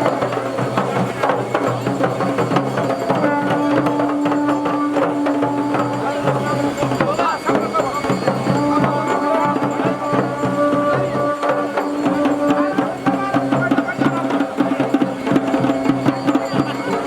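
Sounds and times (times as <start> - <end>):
drums beaten in dense rhythm: 0.0 - 17.0
held melody tones: 0.0 - 17.0.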